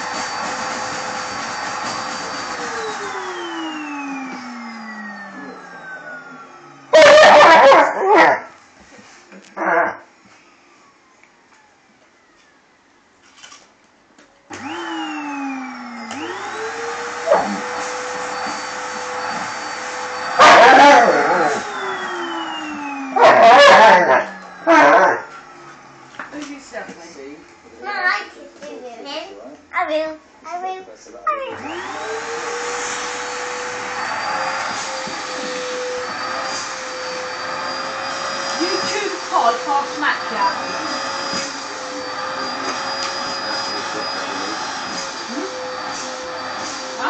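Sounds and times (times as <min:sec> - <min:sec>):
vacuum cleaner hiss and whine: 0:00.0 - 0:12.9, 0:14.4 - 0:28.0, 0:31.5 - 0:47.0.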